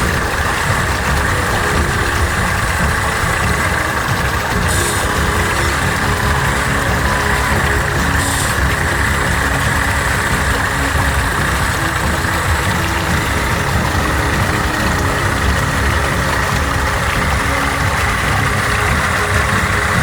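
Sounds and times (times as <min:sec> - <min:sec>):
constant rushing noise: 0:00.0 - 0:20.0
rc truck motor drone: 0:00.0 - 0:20.0.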